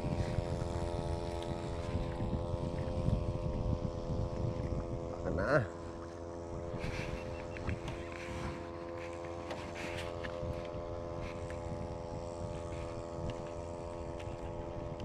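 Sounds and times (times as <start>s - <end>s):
small boat engine running: 0.0s - 15.0s
water noise: 0.0s - 15.0s
wind: 0.0s - 15.0s.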